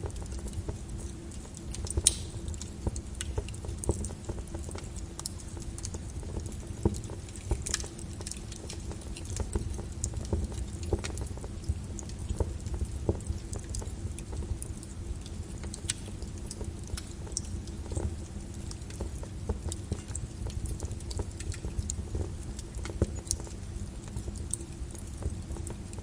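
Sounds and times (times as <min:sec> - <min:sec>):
lava crackling and popping: 0:00.0 - 0:26.0.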